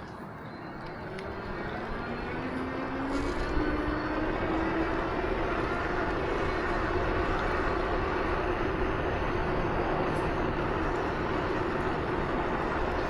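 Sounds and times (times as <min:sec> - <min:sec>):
bike tyres rolling on trail: 0:00.6 - 0:13.0.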